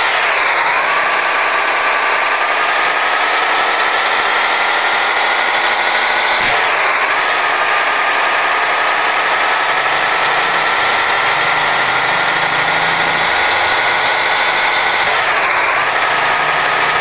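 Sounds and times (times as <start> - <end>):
steady whine: 0.0 - 17.0
truck engine running: 0.0 - 17.0.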